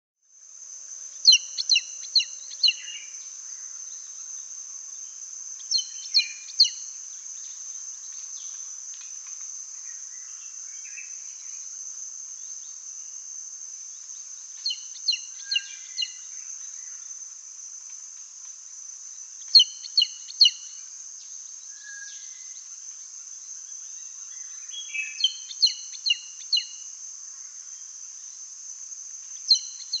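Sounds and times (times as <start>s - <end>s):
high insect drone: 0.2s - 30.0s.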